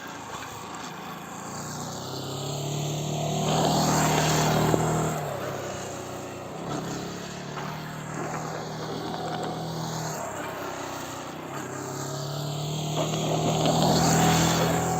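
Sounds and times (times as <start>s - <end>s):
motorcycle engine passing: 0.0s - 14.9s.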